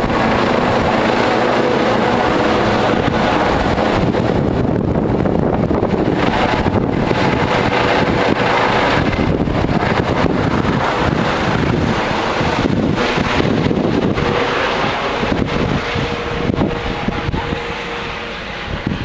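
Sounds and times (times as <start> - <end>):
helicopter engine and rotor: 0.0 - 19.0
wind buffeting microphone: 0.0 - 19.0.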